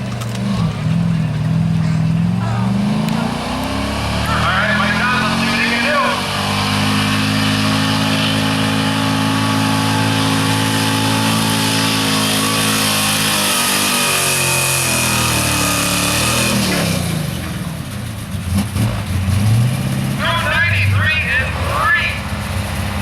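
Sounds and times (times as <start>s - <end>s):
truck engine revving under load: 0.0s - 23.0s.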